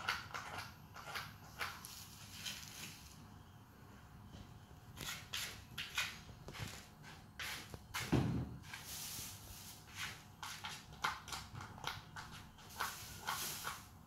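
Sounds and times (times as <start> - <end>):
cat scratching in litter: 0.0 - 3.2, 4.9 - 14.0.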